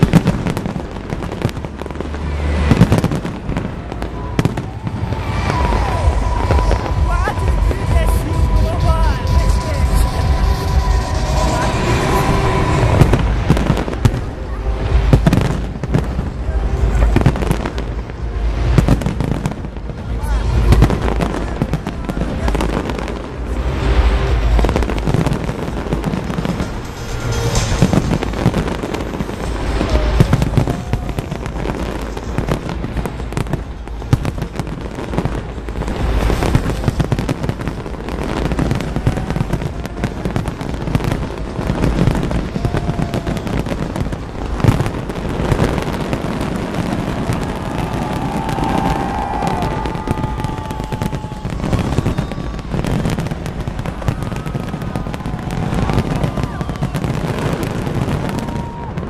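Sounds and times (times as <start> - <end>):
fireworks bangs and crackling: 0.0 - 59.0
loud fireworks booms: 0.0 - 59.0.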